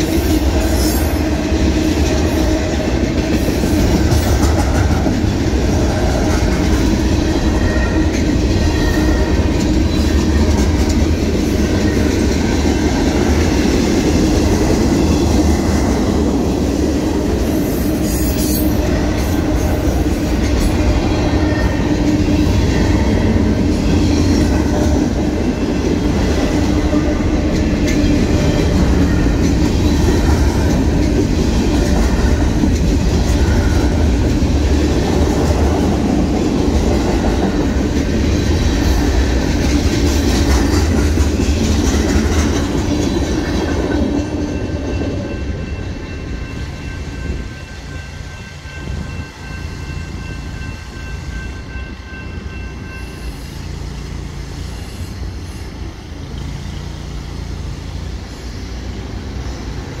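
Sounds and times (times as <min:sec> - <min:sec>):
clickety-clack over rail joints: 0:00.0 - 1:00.0
freight train wheels rumbling: 0:00.0 - 1:00.0.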